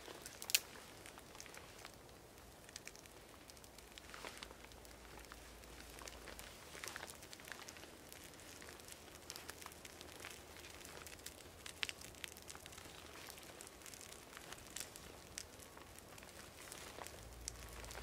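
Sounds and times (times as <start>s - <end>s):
fire popping and snapping: 0.0s - 18.0s
small fire crackling: 0.0s - 18.0s.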